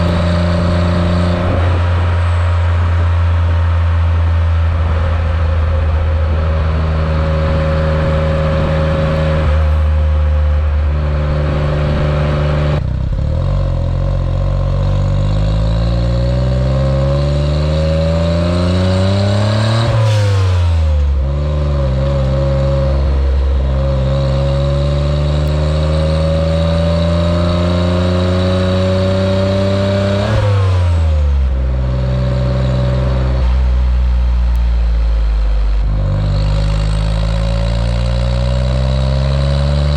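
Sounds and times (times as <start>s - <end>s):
small turbo car engine: 0.0s - 39.9s.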